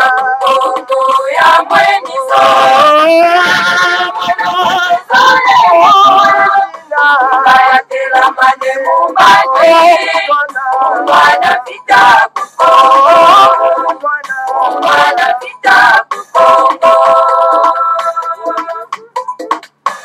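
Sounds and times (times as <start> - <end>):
voices singing in harmony: 0.0 - 19.3.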